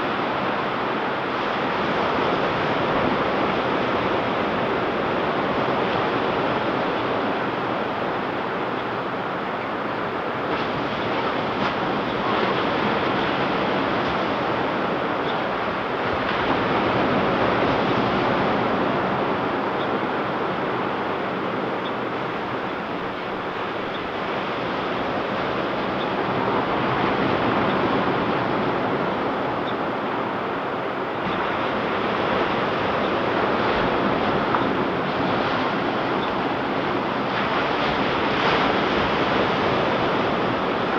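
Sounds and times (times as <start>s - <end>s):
waves breaking on beach: 0.0s - 40.9s.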